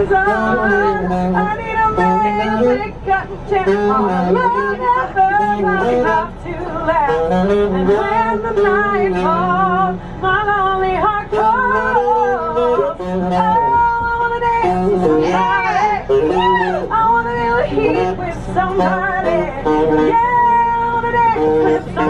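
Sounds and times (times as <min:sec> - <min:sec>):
saxophone playing: 0:00.0 - 0:10.0, 0:11.1 - 0:22.0
woman singing with vibrato: 0:00.0 - 0:22.0.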